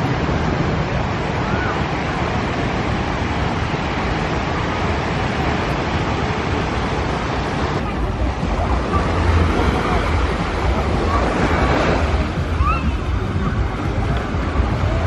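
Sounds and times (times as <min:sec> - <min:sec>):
faint distant voices: 0:00.0 - 0:15.0
surf washing: 0:00.0 - 0:15.0
wind rumbling on microphone: 0:00.0 - 0:15.0.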